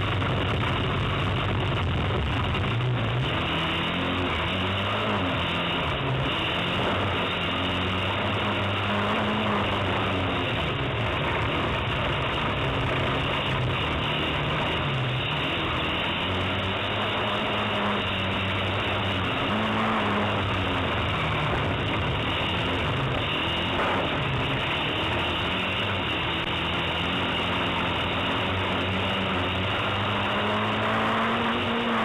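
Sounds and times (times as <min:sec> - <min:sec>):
race car engine revving: 0:00.0 - 0:32.0
steady rushing noise: 0:00.0 - 0:32.0.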